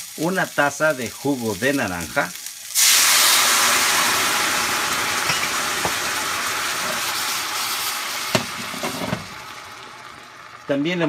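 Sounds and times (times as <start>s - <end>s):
juice sizzling in hot pan: 0.0s - 11.0s.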